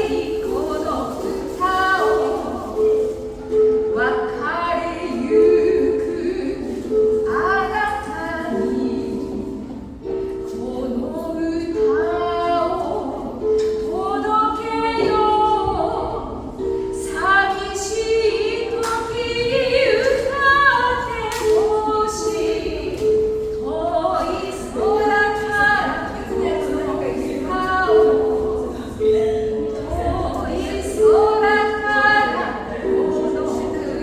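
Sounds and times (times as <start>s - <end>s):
person singing melody: 0.0s - 34.0s.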